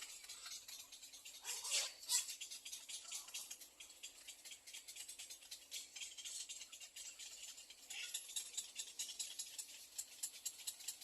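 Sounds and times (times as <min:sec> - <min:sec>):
egret chicks ticking begging calls: 0:00.0 - 0:11.0.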